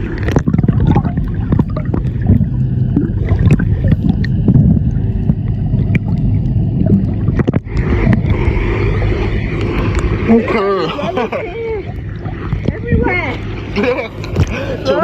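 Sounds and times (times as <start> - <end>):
boat engine rumbling: 0.0 - 15.0
water rushing past hull: 0.0 - 15.0.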